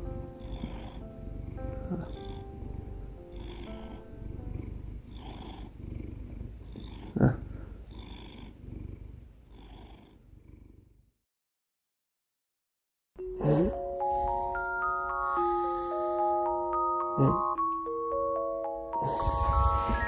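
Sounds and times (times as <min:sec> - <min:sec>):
cat purring: 0:00.0 - 0:11.2, 0:13.4 - 0:18.0, 0:18.9 - 0:20.0.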